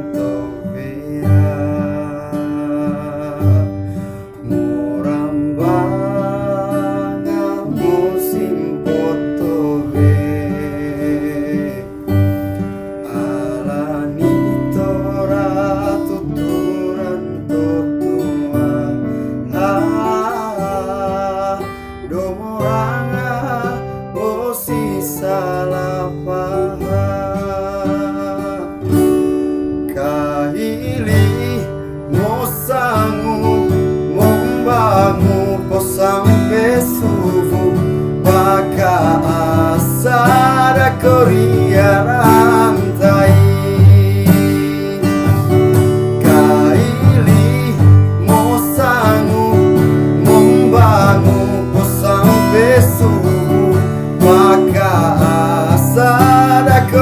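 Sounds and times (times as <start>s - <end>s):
strummed acoustic guitar: 0.0s - 57.0s
young man singing: 0.0s - 57.0s.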